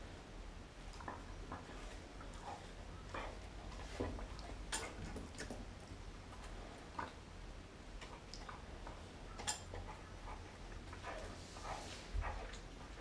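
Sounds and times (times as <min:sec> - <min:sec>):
dog chewing meat: 0:00.8 - 0:13.0.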